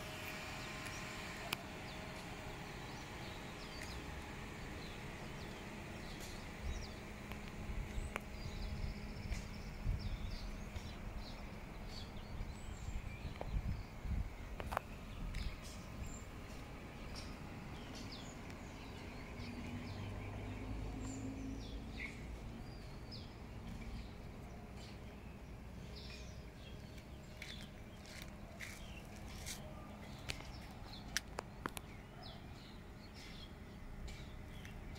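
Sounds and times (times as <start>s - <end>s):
low outdoor rumble: 0.0s - 34.9s.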